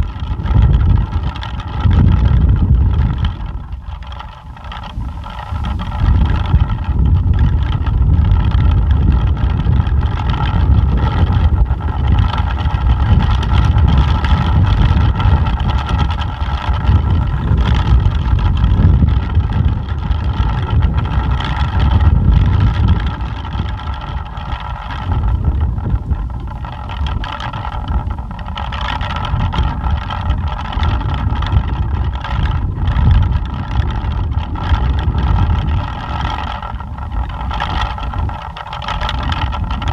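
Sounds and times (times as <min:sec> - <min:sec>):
pinwheel whirring: 0:00.0 - 0:39.9
wind rumble on microphone: 0:00.0 - 0:39.9.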